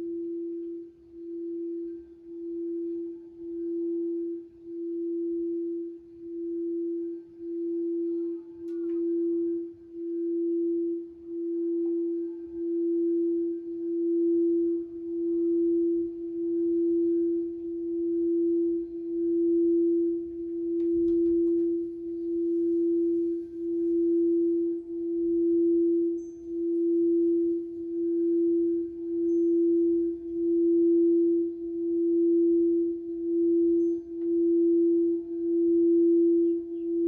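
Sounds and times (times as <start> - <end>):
crystal singing bowl tone: 0.0 - 37.0.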